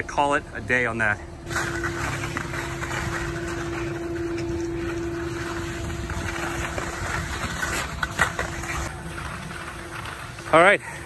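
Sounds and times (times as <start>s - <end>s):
faint hum: 0.0s - 11.0s
skis gliding over snow: 1.5s - 11.0s.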